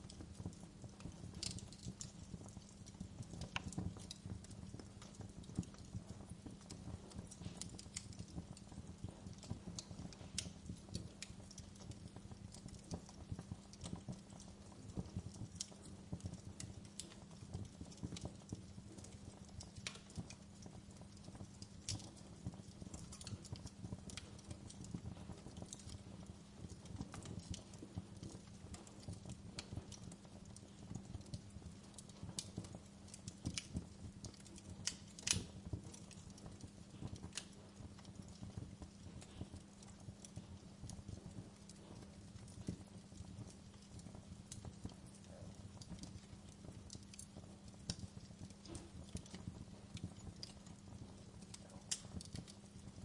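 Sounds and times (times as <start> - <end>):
campfire crackling and popping: 0.0 - 53.0
low fire rumble: 0.0 - 53.0.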